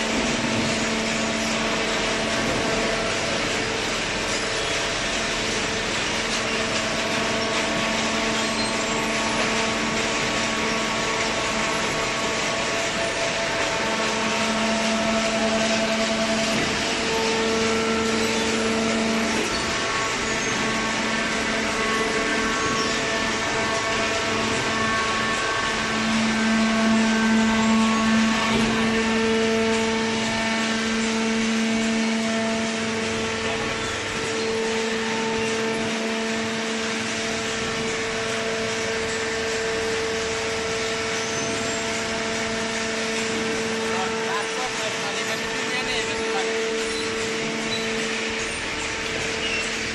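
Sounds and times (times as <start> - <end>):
baler machine hum and hiss: 0.0 - 49.9.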